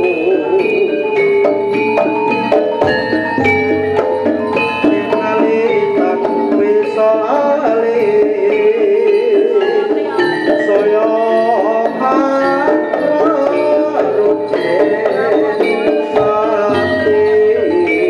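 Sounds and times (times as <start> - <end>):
gongs and metallophones: 0.0 - 18.0
hand drums: 0.0 - 18.0.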